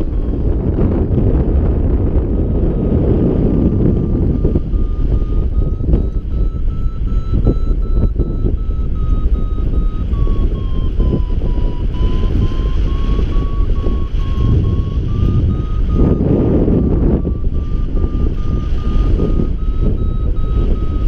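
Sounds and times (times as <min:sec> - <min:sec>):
variometer beeping: 0:00.0 - 0:01.1, 0:02.2 - 0:21.0
loud wind rush on microphone: 0:00.0 - 0:21.0.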